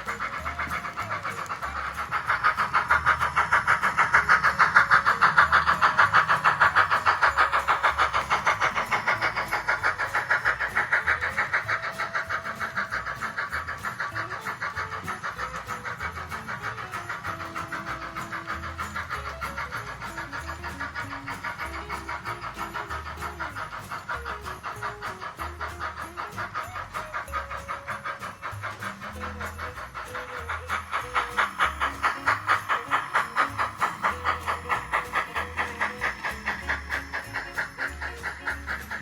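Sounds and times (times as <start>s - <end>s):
model train clicking past: 0.0s - 39.0s.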